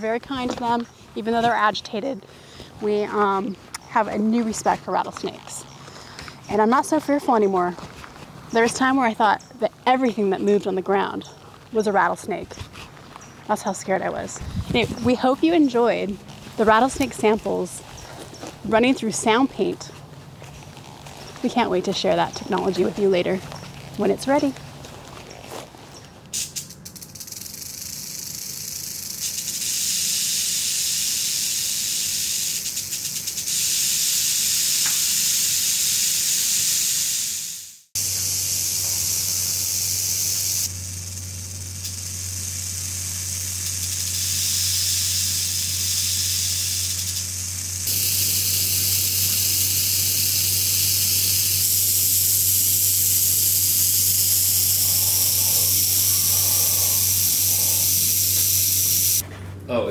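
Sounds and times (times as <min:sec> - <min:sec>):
rattlesnakes rattling: 0:00.0 - 0:59.2.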